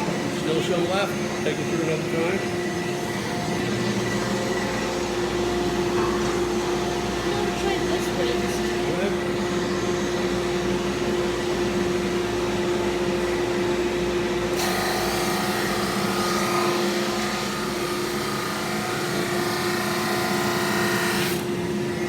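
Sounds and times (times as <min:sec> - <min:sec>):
drum sander humming: 0:00.0 - 0:22.0.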